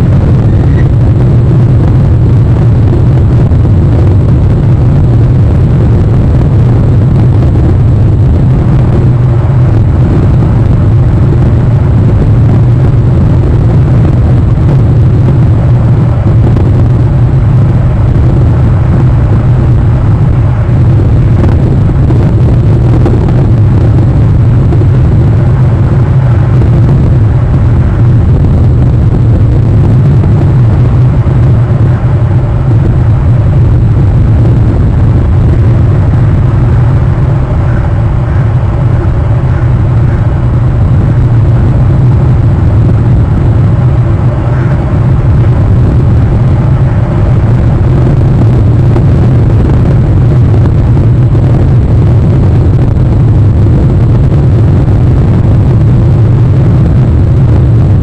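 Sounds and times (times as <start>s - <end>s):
loud low rumbling: 0.0s - 58.0s.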